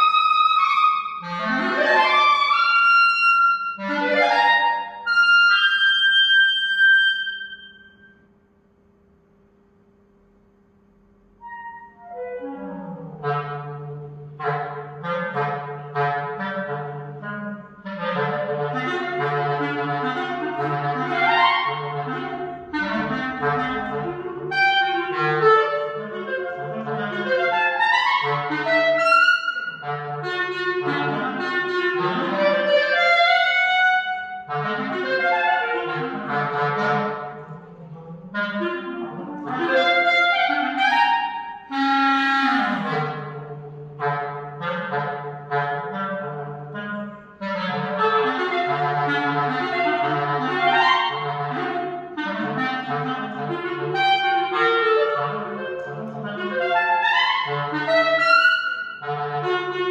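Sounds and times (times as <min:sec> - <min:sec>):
solo clarinet playing fast runs: 0:00.0 - 0:08.2, 0:11.4 - 0:59.9.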